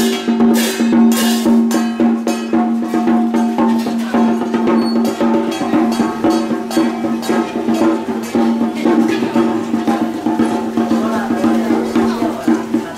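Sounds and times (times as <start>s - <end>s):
held melodic tone: 0.0s - 12.9s
rapid drum strikes: 0.0s - 12.9s.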